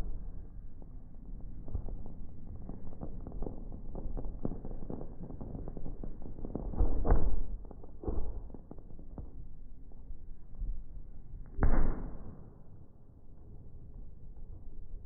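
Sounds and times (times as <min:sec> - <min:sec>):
deep slowed fireworks booms: 0:00.0 - 0:12.7.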